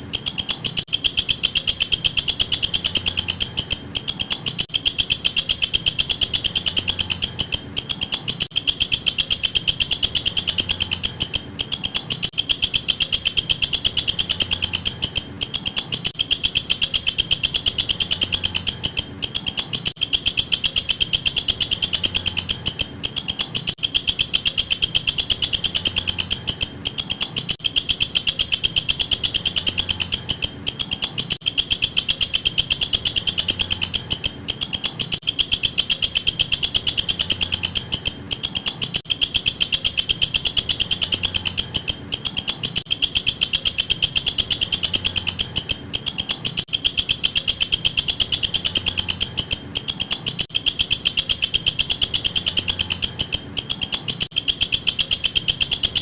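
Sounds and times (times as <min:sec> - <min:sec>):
insect pulsed trill: 0:00.0 - 0:56.0.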